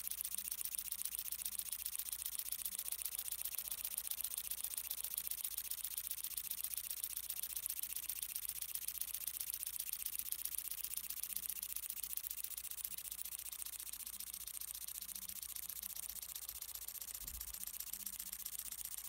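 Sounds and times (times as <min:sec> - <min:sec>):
model steam engine ticking hiss: 0:00.0 - 0:19.0.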